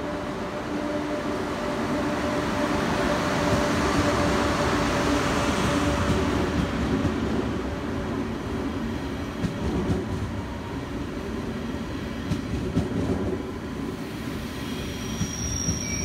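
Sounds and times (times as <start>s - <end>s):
train low hum: 0.0s - 16.0s
train wheels rumbling on rails: 0.0s - 16.0s.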